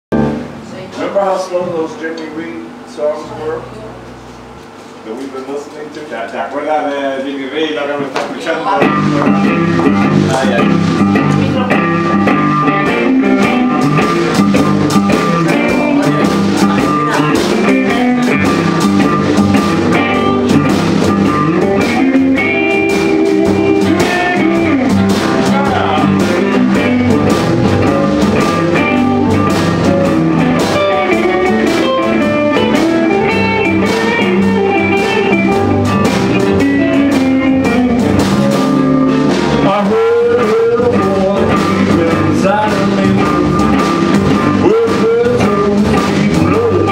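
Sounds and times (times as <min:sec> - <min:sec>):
bass: 0:00.0 - 0:46.9
drum kit: 0:00.1 - 0:00.9, 0:01.6 - 0:46.9
electric guitars: 0:00.1 - 0:05.3, 0:08.1 - 0:46.9
keyboard: 0:08.6 - 0:46.9.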